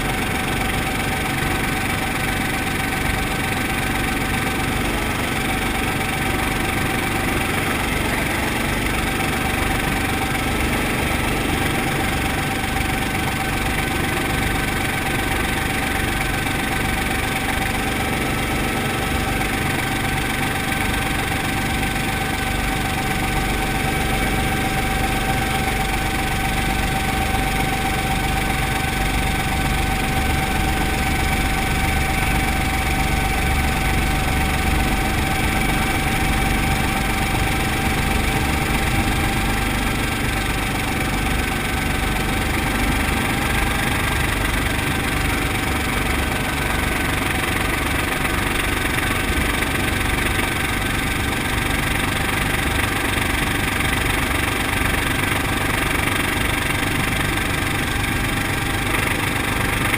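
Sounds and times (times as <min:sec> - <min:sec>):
helicopter engine and rotor: 0:00.0 - 0:59.9
thin steady whine: 0:00.0 - 0:59.9.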